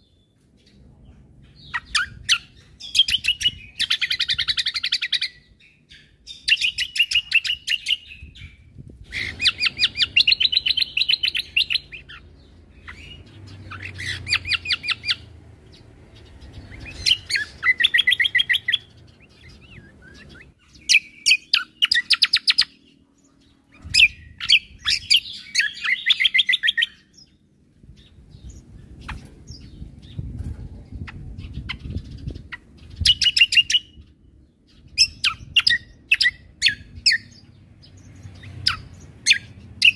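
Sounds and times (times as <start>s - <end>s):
songbird chirping rapidly: 0.0s - 39.9s.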